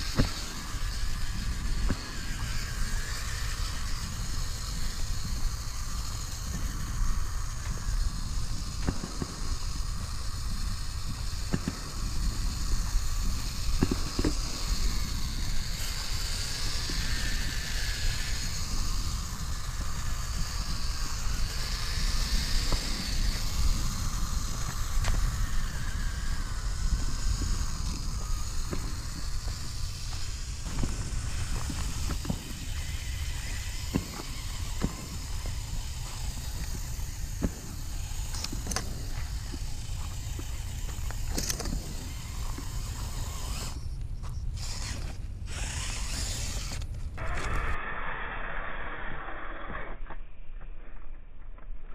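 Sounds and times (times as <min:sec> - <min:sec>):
electric motor whining: 0:00.0 - 0:50.0.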